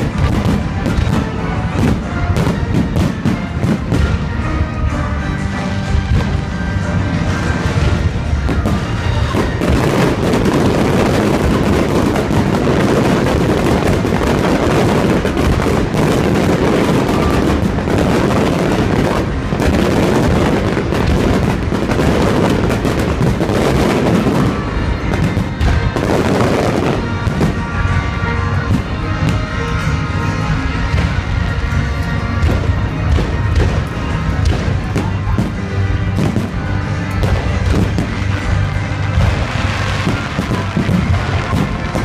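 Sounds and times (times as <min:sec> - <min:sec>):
fireworks bursting and crackling: 0:00.0 - 0:42.0
music playing: 0:00.0 - 0:42.0.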